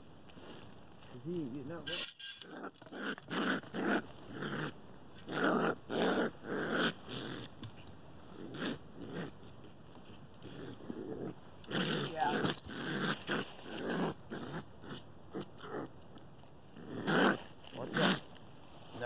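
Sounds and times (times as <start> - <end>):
raccoon growling: 1.3 - 19.0.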